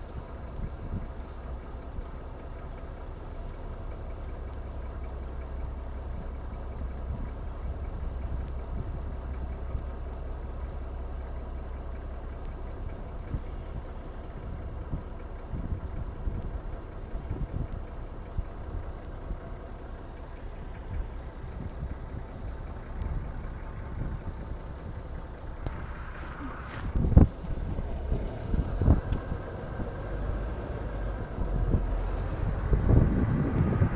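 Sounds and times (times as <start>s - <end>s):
vehicle engine idling: 0.0s - 33.9s.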